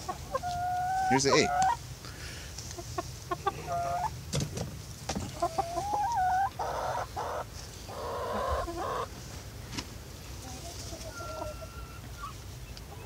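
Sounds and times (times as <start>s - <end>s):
hens calling: 0.0s - 4.2s, 5.1s - 9.4s, 10.2s - 13.0s.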